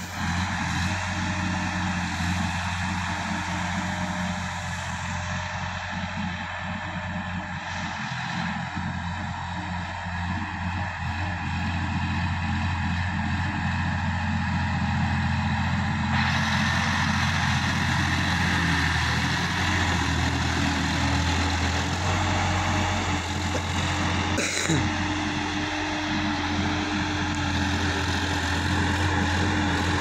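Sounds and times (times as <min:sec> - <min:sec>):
tiller churning soil: 0:00.0 - 0:30.0
tractor diesel engine running: 0:00.0 - 0:30.0.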